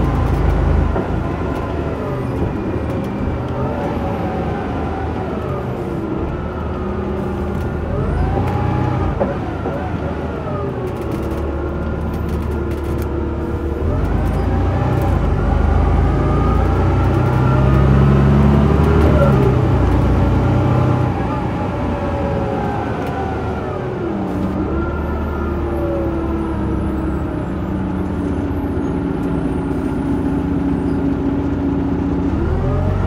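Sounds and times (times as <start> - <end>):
diesel bus engine running: 0.0 - 33.0.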